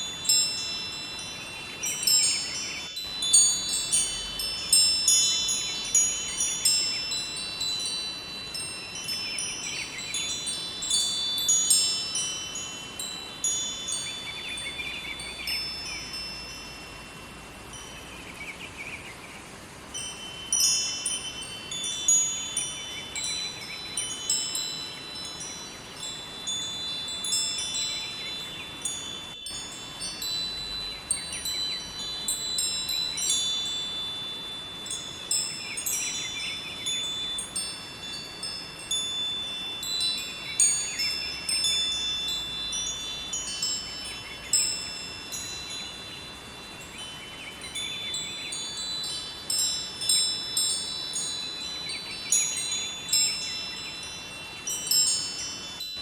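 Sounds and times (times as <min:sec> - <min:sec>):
wind chimes ringing: 0:00.0 - 0:56.0.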